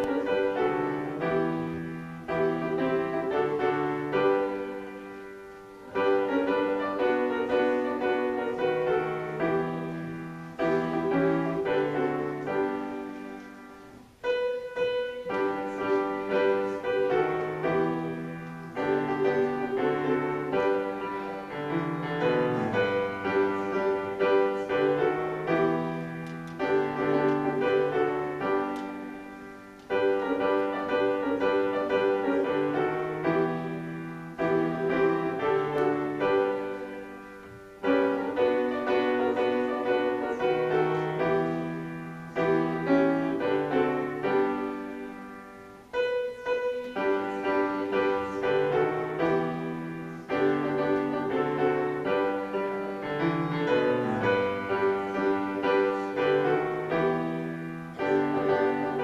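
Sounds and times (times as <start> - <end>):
slow grand piano piece: 0.0 - 59.0.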